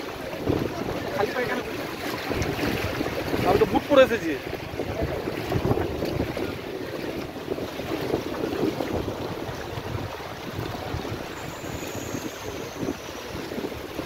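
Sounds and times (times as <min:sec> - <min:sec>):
water sloshing from wading: 0:00.0 - 0:14.0
wind noise on microphone: 0:00.0 - 0:14.0.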